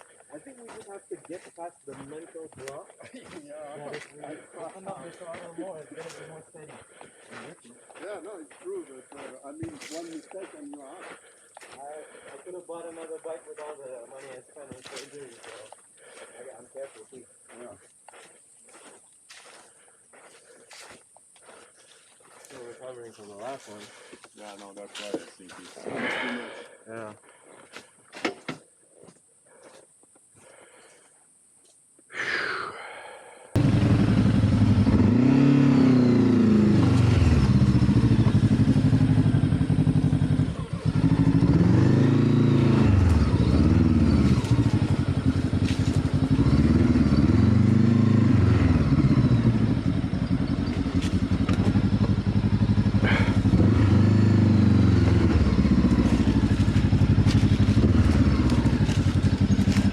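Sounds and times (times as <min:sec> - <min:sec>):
off-road motorcycle engine revving: 0:00.3 - 0:18.2, 0:18.8 - 0:26.7, 0:33.6 - 0:59.9.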